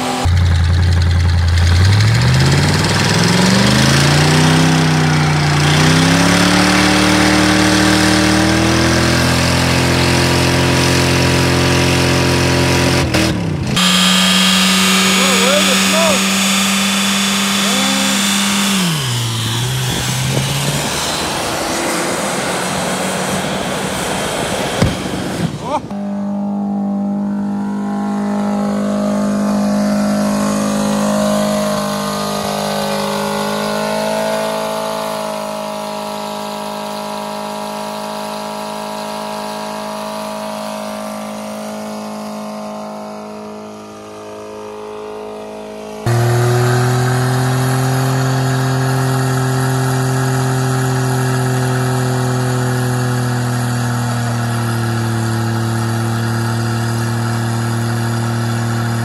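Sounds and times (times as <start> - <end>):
car engine revving high: 0.0 - 59.0
lower car engine at full throttle: 0.0 - 59.0.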